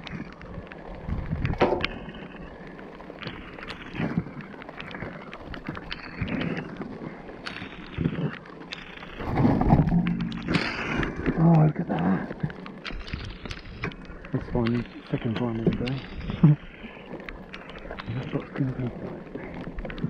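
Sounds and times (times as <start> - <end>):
rain and wind hiss: 0.0 - 20.0.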